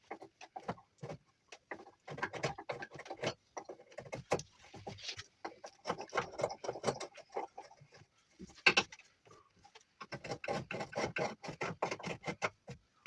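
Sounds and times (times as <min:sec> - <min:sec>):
wood being carved by hand: 0:00.0 - 0:13.0.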